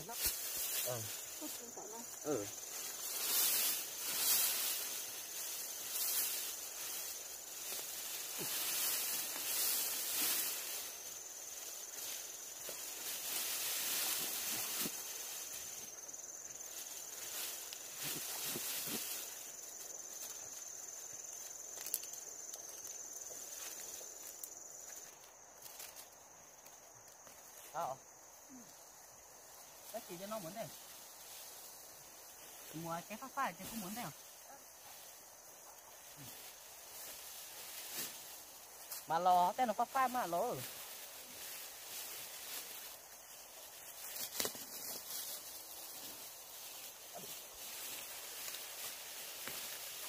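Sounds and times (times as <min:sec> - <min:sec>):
high-pitched insect drone: 0:00.0 - 0:50.0
rustling hiss: 0:00.0 - 0:50.0.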